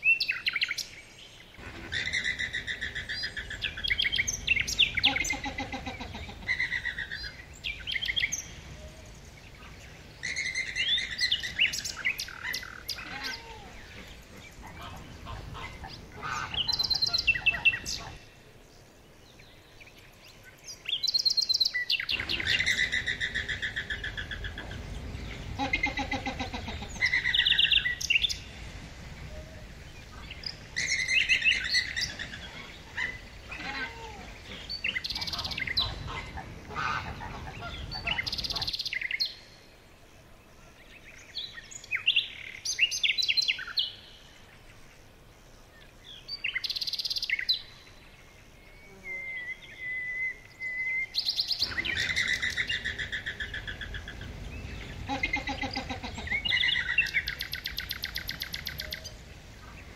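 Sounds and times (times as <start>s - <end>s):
birds chirping: 0.0s - 59.9s
low rushing noise: 1.4s - 20.6s, 22.0s - 42.6s, 51.2s - 59.9s.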